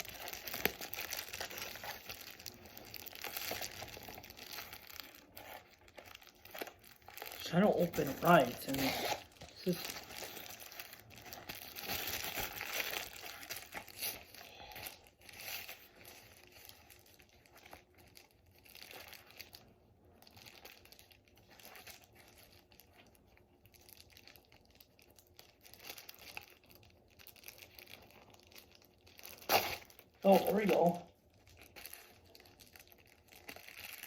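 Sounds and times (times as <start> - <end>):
packaging crinkling and tearing: 0.0 - 34.0.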